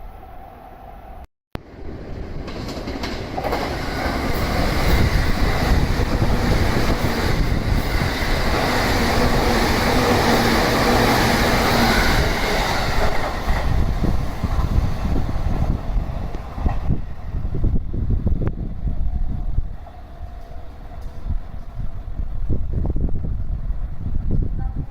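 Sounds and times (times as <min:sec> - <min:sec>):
train passing at high speed: 0:00.0 - 0:24.9.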